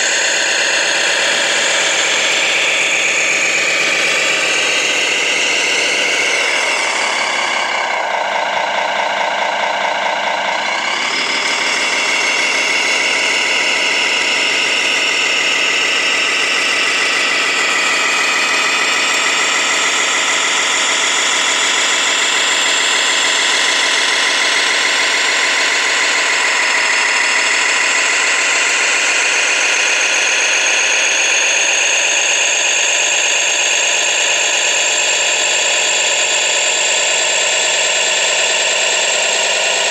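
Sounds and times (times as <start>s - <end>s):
toy truck motor whining drone: 0.0s - 39.9s.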